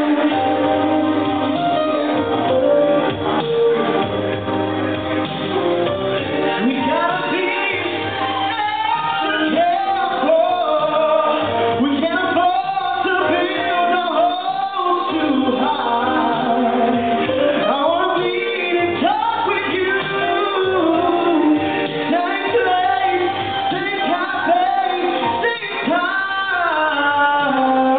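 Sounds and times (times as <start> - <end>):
man singing into microphone: 0.0 - 1.8, 6.2 - 27.9
karaoke backing track: 0.0 - 27.9.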